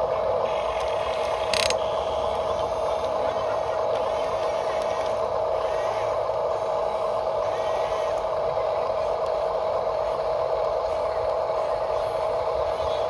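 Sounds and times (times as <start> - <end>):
small electric motors whirring: 0.4 - 8.3, 9.0 - 13.0.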